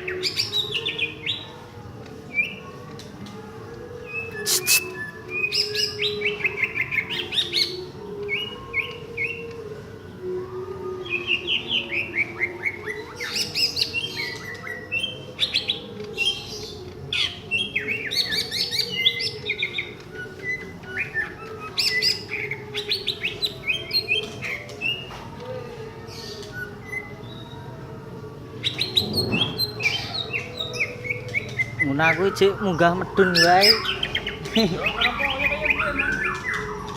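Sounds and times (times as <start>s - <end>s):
bird singing chirps and trills: 0.0s - 36.9s.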